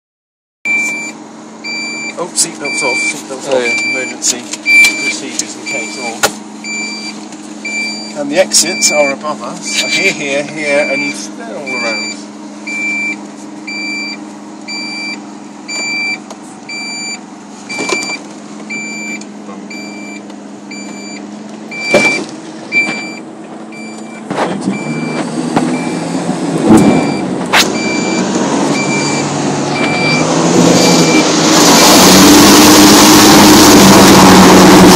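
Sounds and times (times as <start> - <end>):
high electronic warning beep: 0.7 - 26.1, 26.8 - 31.4
car engine running: 0.7 - 34.9.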